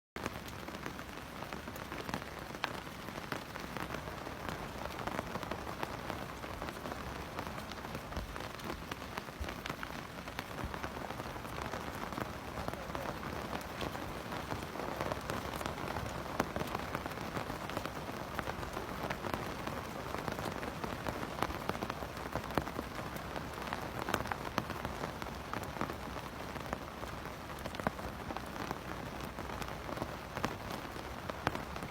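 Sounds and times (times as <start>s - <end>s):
raindrops ticking: 0.2s - 31.9s
steady rain hissing: 0.2s - 31.9s.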